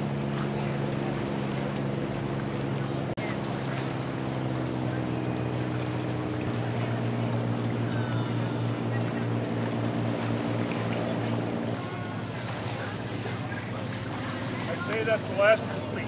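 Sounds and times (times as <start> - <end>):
motorboat engines humming: 0.0 - 16.0.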